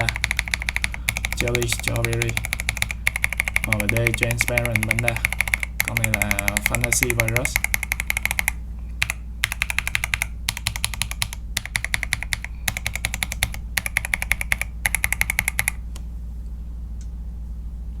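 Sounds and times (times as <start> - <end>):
mechanical keyboard typing: 0.0 - 15.8.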